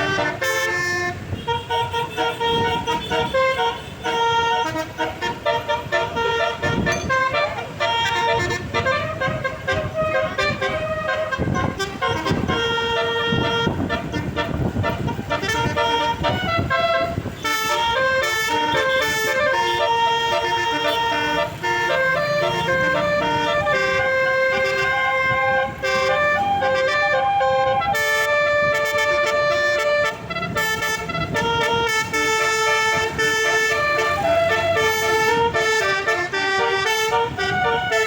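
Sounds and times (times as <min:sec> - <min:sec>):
multi-tone electric bus horn melody: 0:00.0 - 0:38.0.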